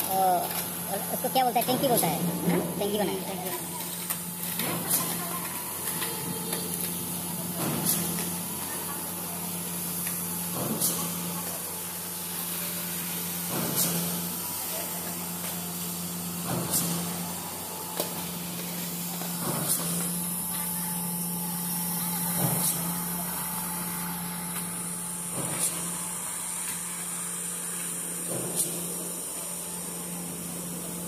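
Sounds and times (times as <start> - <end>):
concrete pump running: 0.0 - 31.0.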